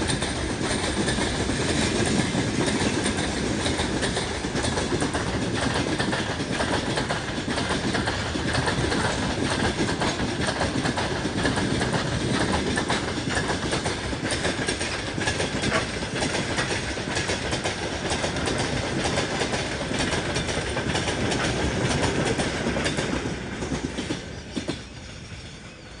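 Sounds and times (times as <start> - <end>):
freight train wheels clickety-clack: 0.0 - 26.0.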